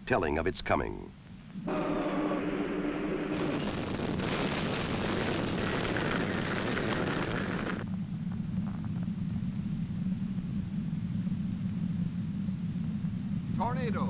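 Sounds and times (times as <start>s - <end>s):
low steady rumble: 0.8s - 14.0s
tornado wind roaring: 1.6s - 14.0s.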